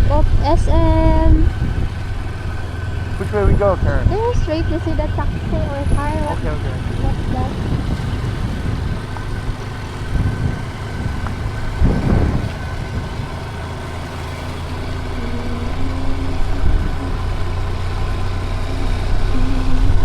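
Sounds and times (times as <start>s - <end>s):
motorcycle engine running: 0.0s - 20.0s
traffic: 0.0s - 20.0s.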